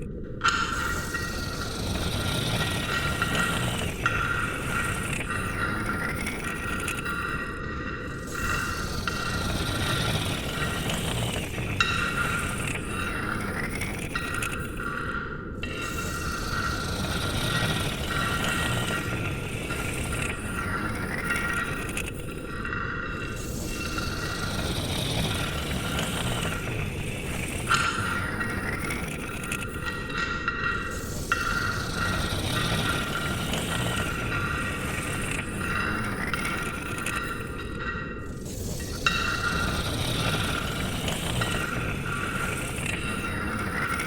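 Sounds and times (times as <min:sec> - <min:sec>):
steady rumbling noise: 0:00.0 - 0:44.0.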